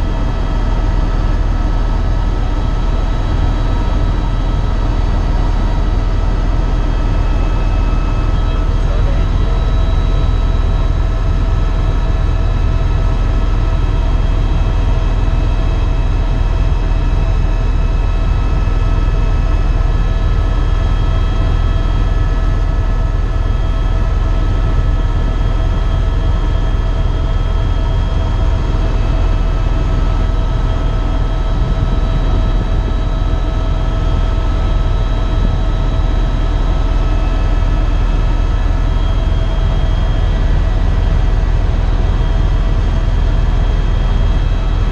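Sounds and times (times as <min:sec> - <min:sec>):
helicopter rotor rumble: 0:00.0 - 0:44.9
turbine whine: 0:00.0 - 0:44.9.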